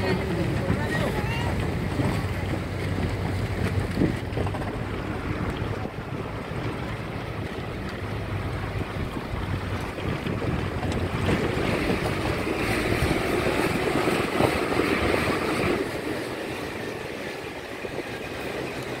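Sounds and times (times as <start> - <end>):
vehicle engine and road rumble: 0.0 - 19.0
wind buffeting microphone: 0.0 - 19.0.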